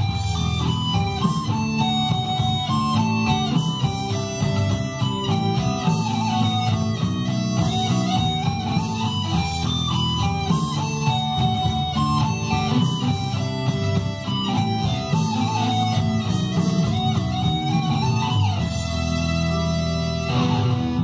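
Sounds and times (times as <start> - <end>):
electric guitar lead melody: 0.0 - 21.0.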